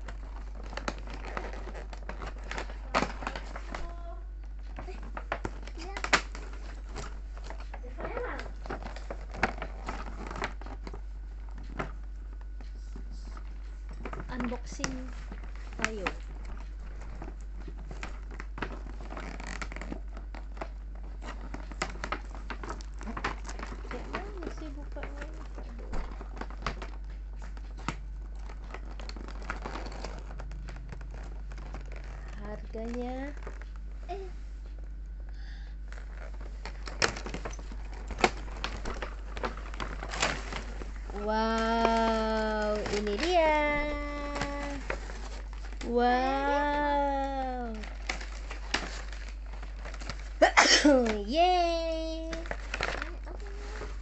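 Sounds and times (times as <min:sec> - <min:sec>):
packaging crinkling and tearing: 0:00.0 - 0:12.6, 0:13.3 - 0:34.8, 0:35.8 - 0:54.0.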